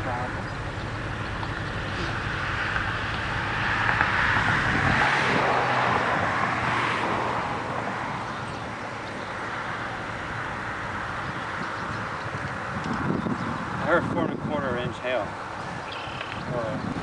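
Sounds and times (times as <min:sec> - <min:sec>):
vehicle passing by: 0:00.0 - 0:17.0.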